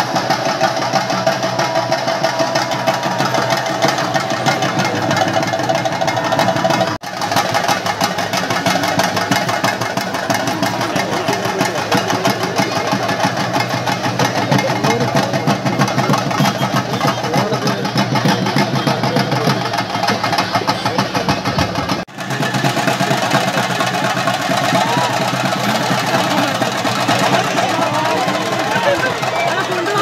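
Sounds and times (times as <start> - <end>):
drums in fast roll: 0.0 - 30.0.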